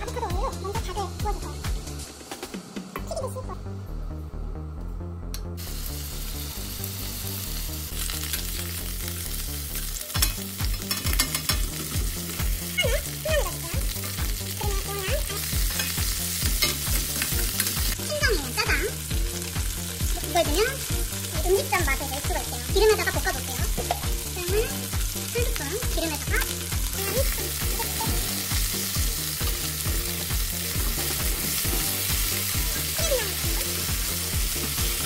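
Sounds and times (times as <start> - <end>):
chicken sizzling in hot oil: 5.6 - 35.0.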